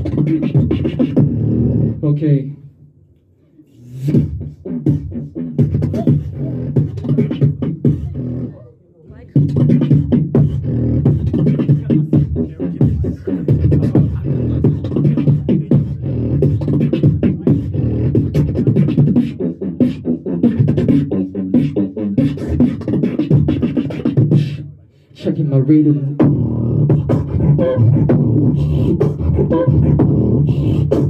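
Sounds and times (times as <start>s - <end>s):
beatboxing into a microphone: 0.0s - 2.7s, 3.4s - 31.0s.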